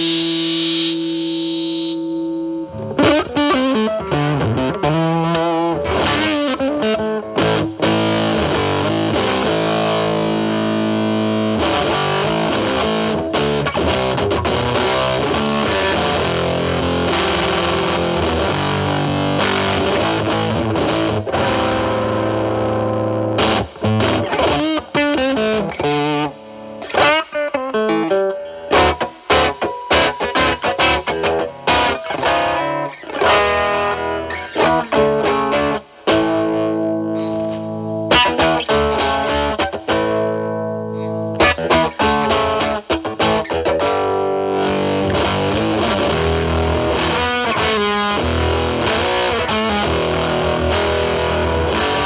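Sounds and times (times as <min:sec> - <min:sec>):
distorted fuzz electric guitar: 0:00.0 - 0:52.0.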